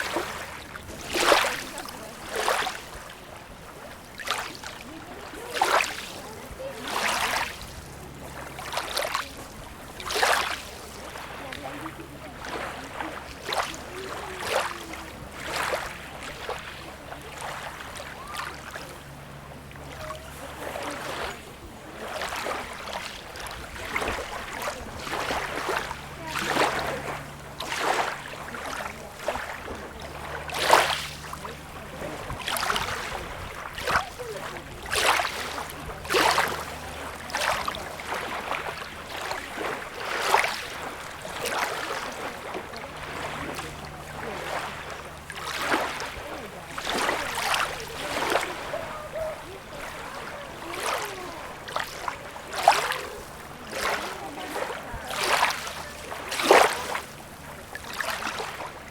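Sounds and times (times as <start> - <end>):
sea water lapping at shore: 0.0 - 58.9.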